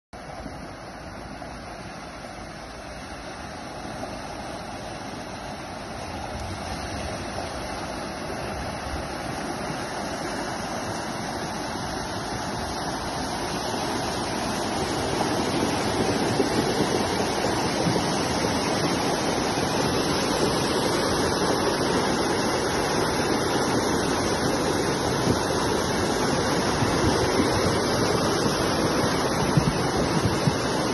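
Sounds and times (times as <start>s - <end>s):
water rushing over rocks: 0.2s - 30.9s.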